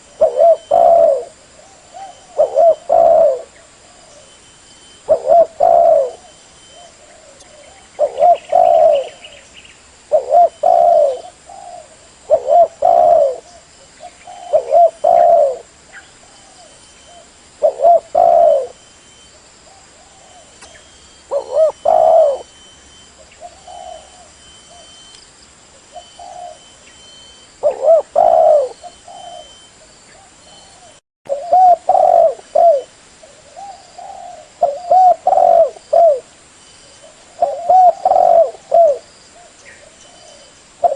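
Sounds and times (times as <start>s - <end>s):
dove cooing: 0.0s - 9.4s, 10.1s - 18.8s, 19.7s - 25.1s, 25.8s - 36.3s, 37.0s - 40.9s.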